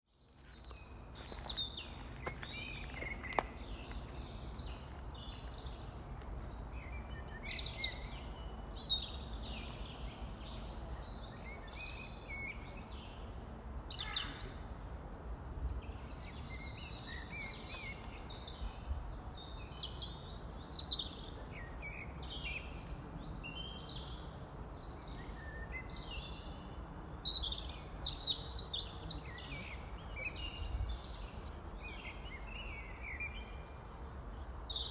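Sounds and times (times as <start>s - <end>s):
small birds chirping and trilling: 0.2s - 34.9s.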